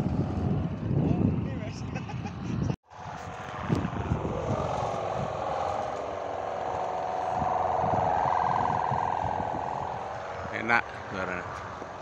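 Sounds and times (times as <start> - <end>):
kite hummer buzzing drone: 0.0 - 12.0
wind buffeting microphone: 0.0 - 12.0.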